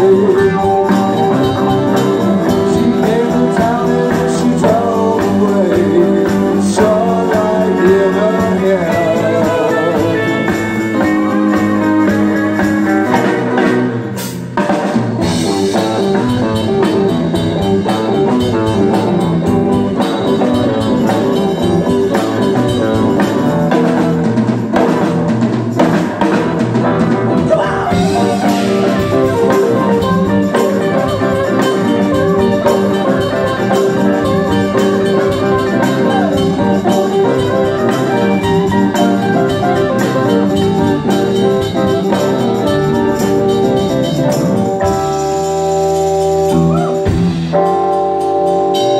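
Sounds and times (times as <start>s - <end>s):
bass guitar: 0.0s - 48.9s
drum kit: 0.0s - 48.9s
electric guitar: 0.0s - 48.9s
keyboard: 0.0s - 48.9s.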